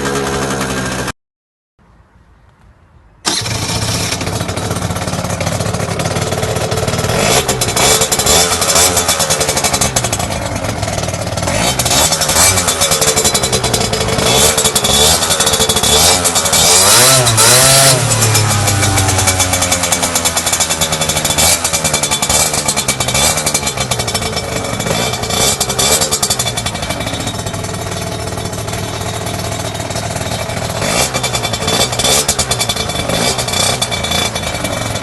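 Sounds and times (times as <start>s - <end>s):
scooter engine revving: 0.0s - 1.1s, 3.2s - 35.0s.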